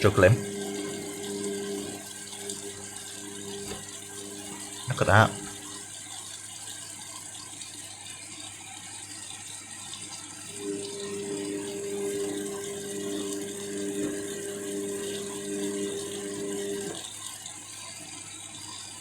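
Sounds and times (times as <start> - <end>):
washing machine motor humming: 0.0 - 7.4, 9.8 - 19.0
water swishing in washing machine: 0.0 - 19.0.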